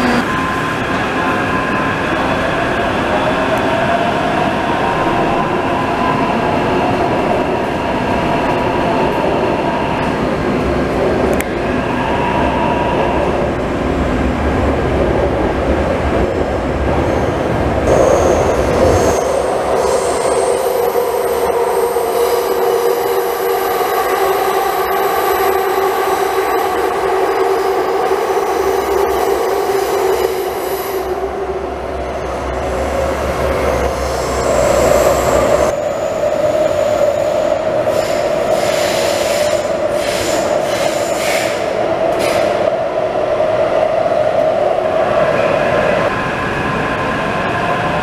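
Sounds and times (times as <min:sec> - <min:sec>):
train wheel-on-rail rumble: 0:00.0 - 0:48.0.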